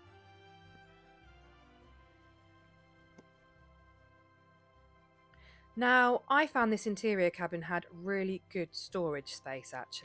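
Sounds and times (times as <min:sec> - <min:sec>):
faint music with held notes: 0:00.0 - 0:10.0.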